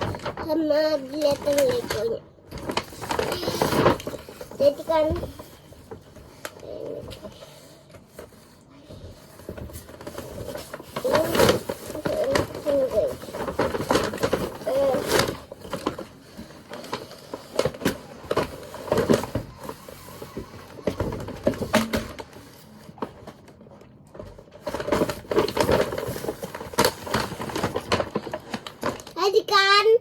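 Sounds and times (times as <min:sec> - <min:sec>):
plastic packaging clicks and rustles: 0:00.0 - 0:29.9.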